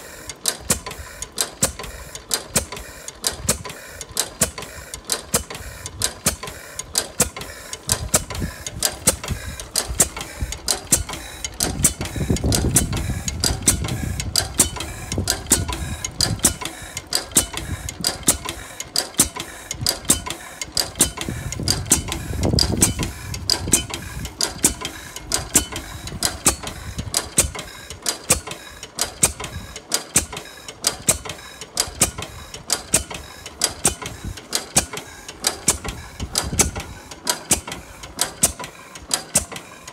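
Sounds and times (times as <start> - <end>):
stationary engine clicking and knocking: 0.0 - 39.9.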